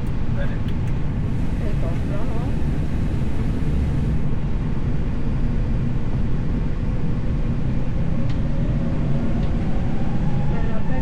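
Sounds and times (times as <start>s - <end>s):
jet engines at takeoff: 0.0s - 11.0s.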